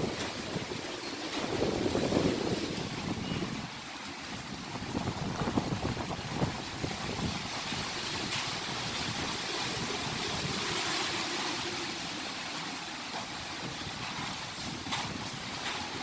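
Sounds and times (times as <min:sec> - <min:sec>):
strong wind gusting: 0:00.0 - 0:12.6, 0:13.2 - 0:16.0.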